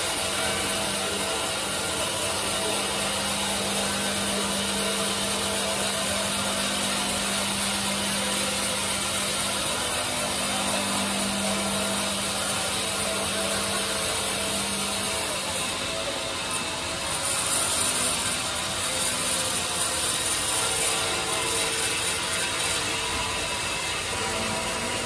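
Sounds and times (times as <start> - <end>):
band saw cutting log: 0.0 - 25.0.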